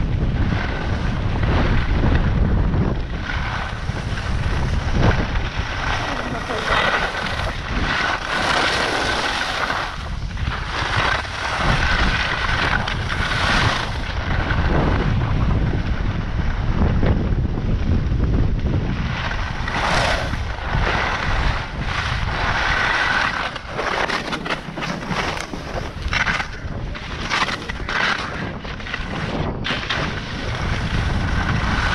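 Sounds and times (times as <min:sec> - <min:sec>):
skis scraping on snow: 0:00.0 - 0:16.9, 0:18.8 - 0:31.9
wind rushing over microphone: 0:00.0 - 0:31.9.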